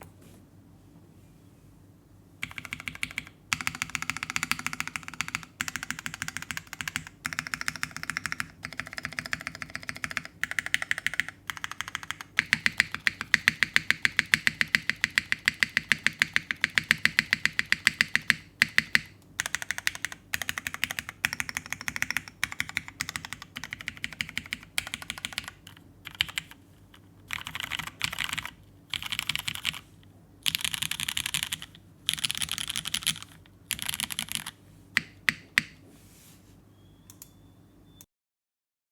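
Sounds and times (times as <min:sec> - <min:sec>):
fast mechanical keyboard typing: 0:02.4 - 0:35.8.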